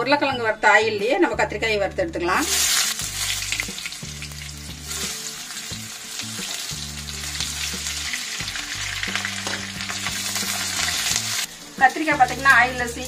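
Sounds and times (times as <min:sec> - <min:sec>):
vegetables sizzling in hot oil: 0:02.4 - 0:13.0.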